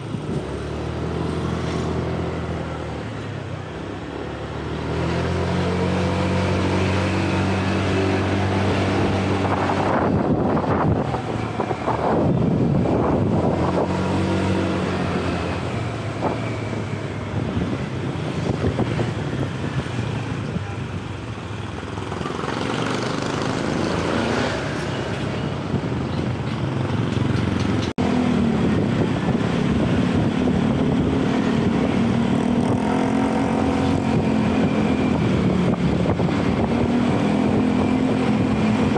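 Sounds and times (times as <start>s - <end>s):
wind rushing over microphone: 4.7s - 21.1s, 22.7s - 38.9s.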